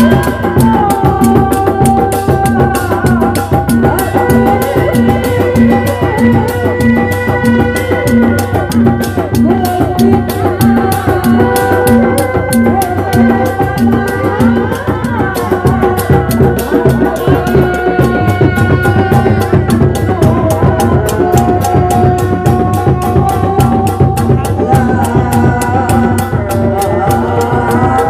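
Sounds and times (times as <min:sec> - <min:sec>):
drums beating fast rhythm: 0:00.0 - 0:28.0.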